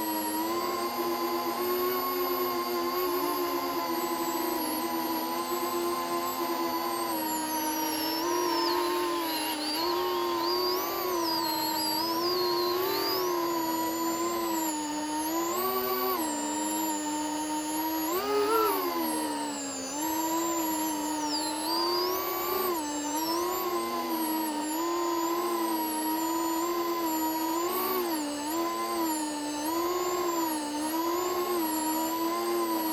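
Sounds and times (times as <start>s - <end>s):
drone motors whining: 0.0s - 32.9s.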